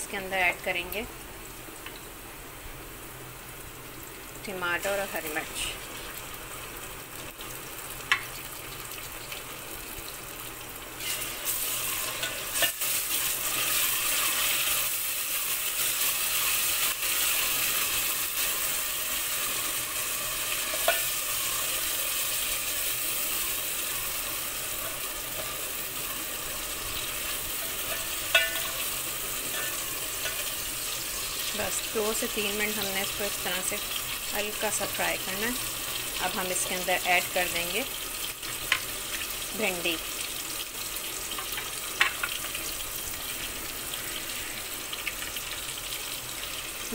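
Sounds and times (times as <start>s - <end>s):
vegetables sizzling in hot oil: 0.0s - 46.9s.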